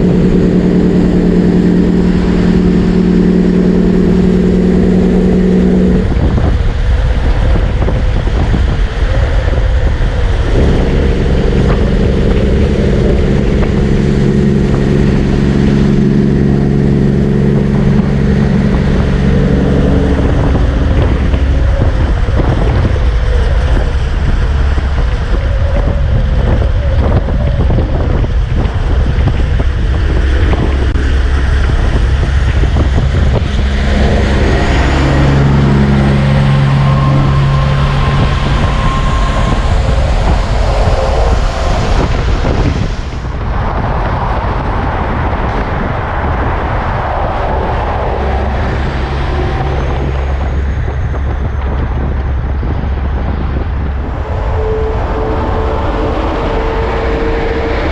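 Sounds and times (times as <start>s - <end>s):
highway traffic rumbling: 0.0s - 57.9s
steady engine tone: 0.0s - 57.9s
wind noise on microphone: 0.0s - 57.9s.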